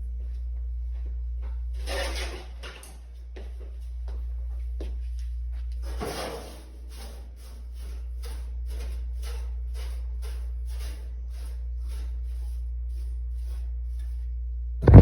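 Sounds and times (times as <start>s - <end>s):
clothes dryer motor hum: 0.0s - 15.0s
dryer scrape: 1.7s - 15.0s.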